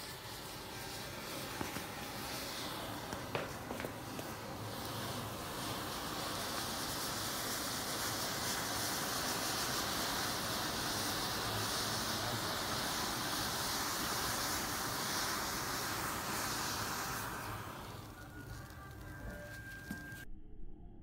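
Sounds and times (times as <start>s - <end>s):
matchsticks burning hiss: 0.0s - 20.2s.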